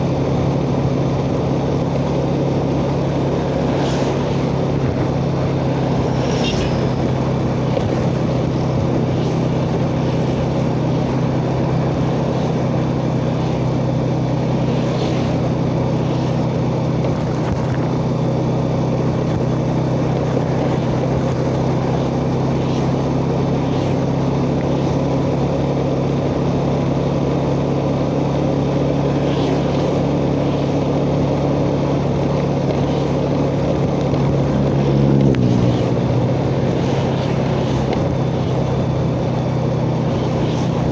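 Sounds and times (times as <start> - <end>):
wind rush: 0.0 - 25.6, 28.6 - 40.9
motorcycle engine running: 0.0 - 40.9
road noise: 0.0 - 40.9.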